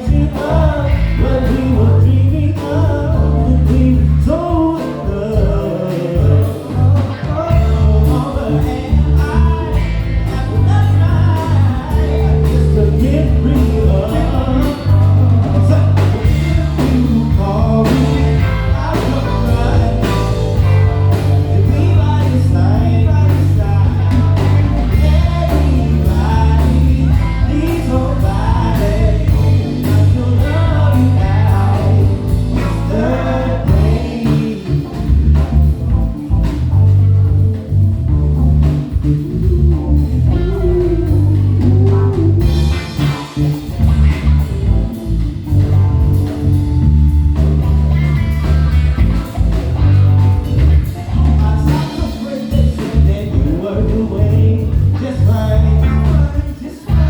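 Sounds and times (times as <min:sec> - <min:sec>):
wavering melodic lead line: 0:00.0 - 0:56.2
drum kit: 0:00.0 - 0:57.0
electric bass: 0:00.0 - 0:57.0
keyboards: 0:00.0 - 0:57.0.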